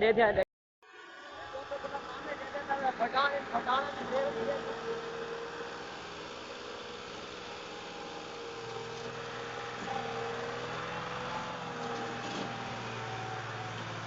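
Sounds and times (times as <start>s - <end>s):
tractor engine running: 1.4s - 14.0s.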